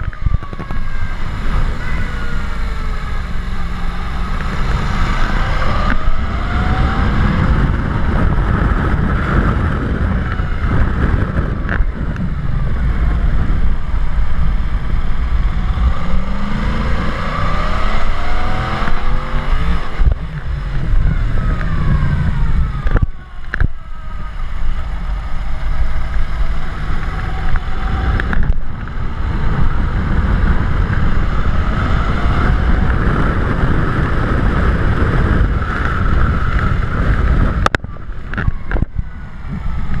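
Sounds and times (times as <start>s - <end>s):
vehicle engine: 0.0s - 40.0s
wind rumble on microphone: 0.0s - 40.0s.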